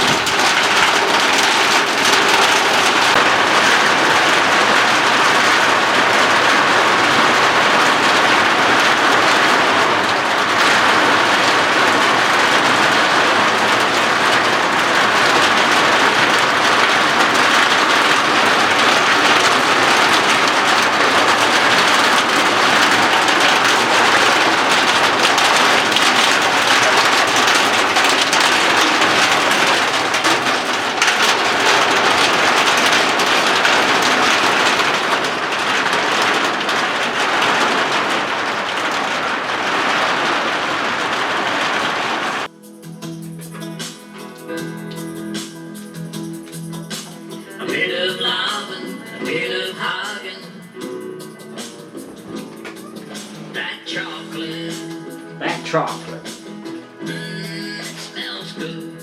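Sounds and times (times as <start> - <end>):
heavy rain on hard surfaces: 0.0 - 59.0.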